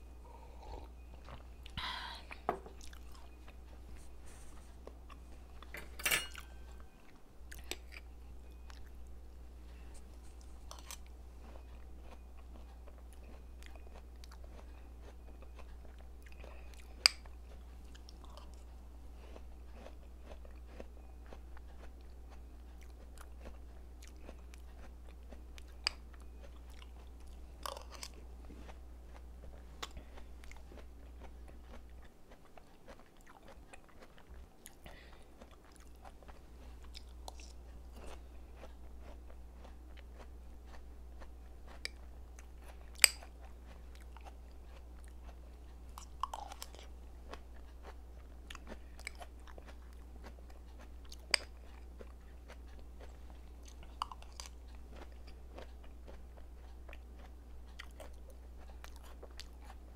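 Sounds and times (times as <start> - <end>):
steady low hum: 0.0 - 59.9
chewing and crunching: 0.1 - 59.9.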